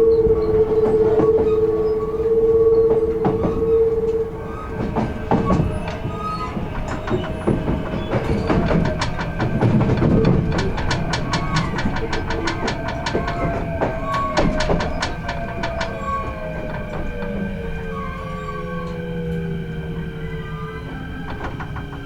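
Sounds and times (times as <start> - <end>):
electric train motor tones: 0.0 - 22.0
wheels clicking over rail joints: 0.0 - 22.0.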